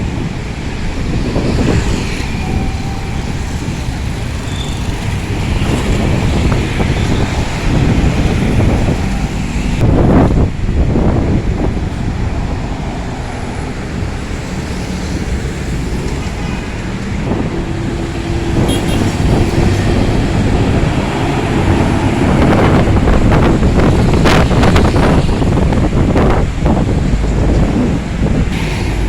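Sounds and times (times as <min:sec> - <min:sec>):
engine and road noise: 0:00.0 - 0:29.0
wind on microphone: 0:00.0 - 0:29.0.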